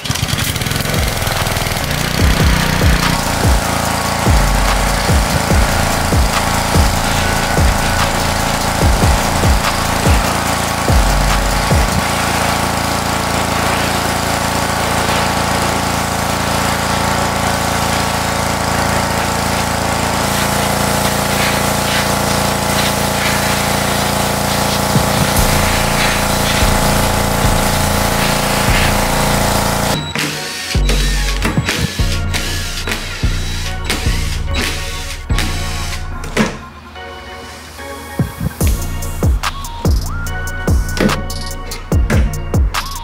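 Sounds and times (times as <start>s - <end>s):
high-pressure water spray hissing: 0.0s - 36.6s, 37.4s - 43.0s
pressure washer motor drone: 0.0s - 43.0s.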